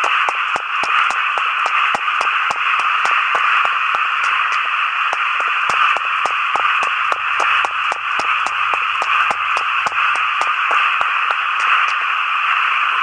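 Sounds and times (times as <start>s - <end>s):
crackling clicks: 0.0s - 12.2s
radio static hiss: 0.0s - 13.0s.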